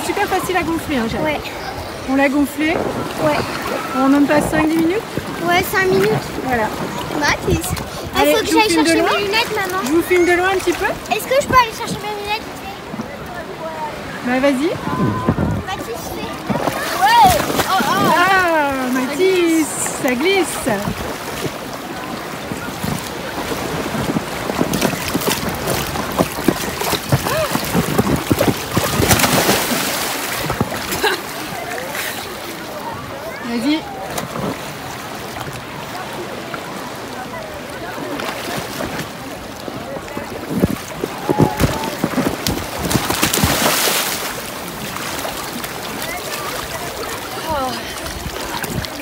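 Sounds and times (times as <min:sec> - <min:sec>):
sea water splashing: 0:00.0 - 0:49.0
wind buffeting microphone: 0:00.0 - 0:49.0.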